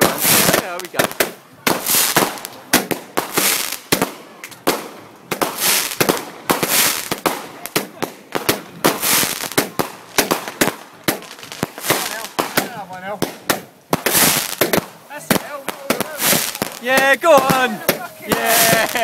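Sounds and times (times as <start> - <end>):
fireworks bangs and crackles: 0.0 - 19.0
fireworks hissing launches: 0.0 - 19.0.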